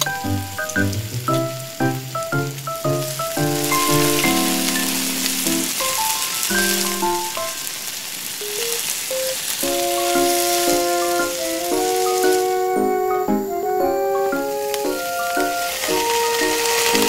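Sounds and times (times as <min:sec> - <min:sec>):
melody of held notes: 0:00.0 - 0:07.8, 0:08.4 - 0:17.0
hot oil sizzling: 0:00.0 - 0:13.5, 0:14.3 - 0:17.0.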